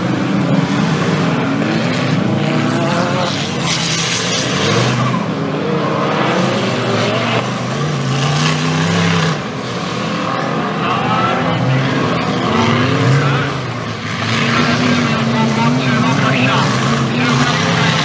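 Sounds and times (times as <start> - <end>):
off-road race engines revving: 0.0 - 18.0.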